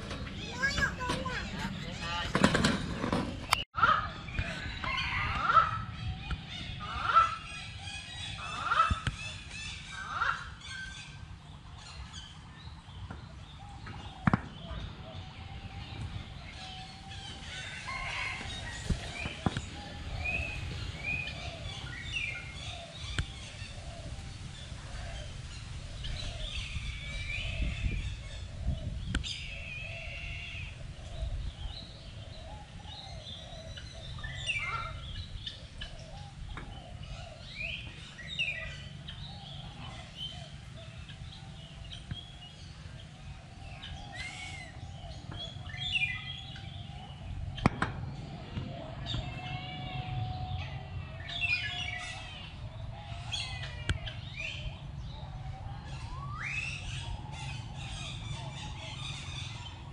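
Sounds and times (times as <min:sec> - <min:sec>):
birds chirping and whistling: 0:00.0 - 0:59.9
low warbling bird calls: 0:00.0 - 0:59.9
steady low rumble: 0:00.0 - 0:59.9.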